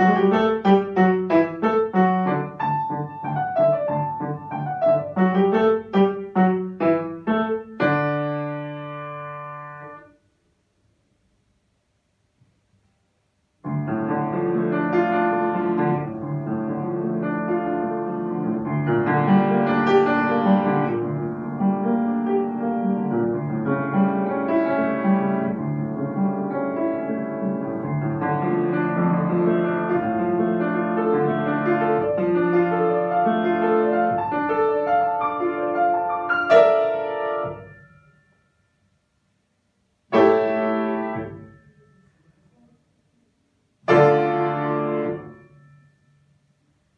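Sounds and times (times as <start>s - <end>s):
grand piano playing: 0.0s - 10.1s, 13.6s - 38.3s, 40.1s - 42.0s, 43.8s - 46.0s
loud piano chord: 0.0s - 10.2s, 13.6s - 38.5s, 40.0s - 42.8s, 43.8s - 46.6s.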